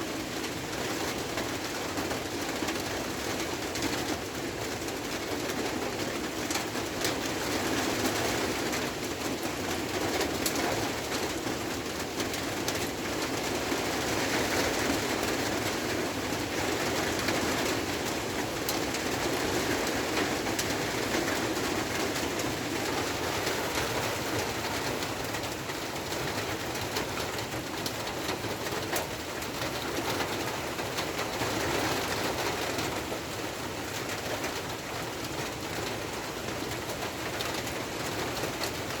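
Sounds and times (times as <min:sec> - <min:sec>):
steady rain on a hut: 0:00.0 - 0:39.0.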